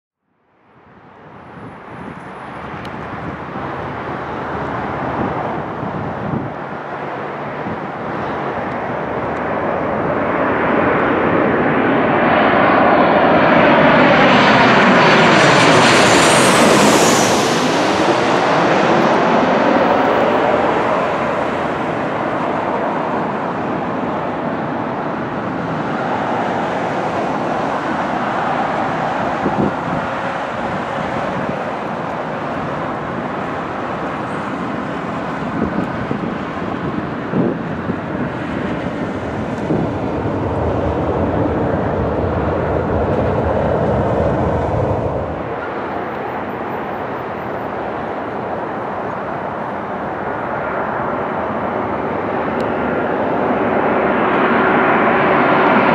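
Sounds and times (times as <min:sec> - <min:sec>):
jet airliner passing overhead: 0:00.8 - 0:55.9.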